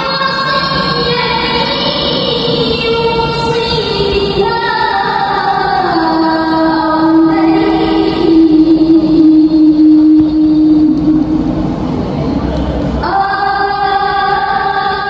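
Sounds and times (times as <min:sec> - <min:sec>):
woman reciting melodically: 0:00.0 - 0:11.7, 0:13.0 - 0:15.0.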